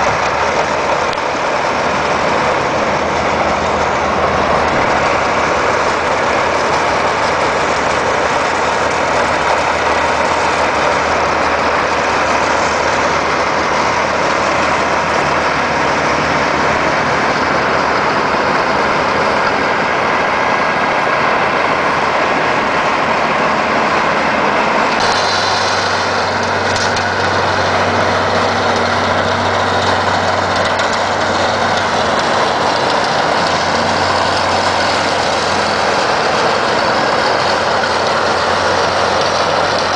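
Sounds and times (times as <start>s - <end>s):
diesel tractor engine running: 0.0s - 39.9s
snowblower blower noise: 0.0s - 39.9s.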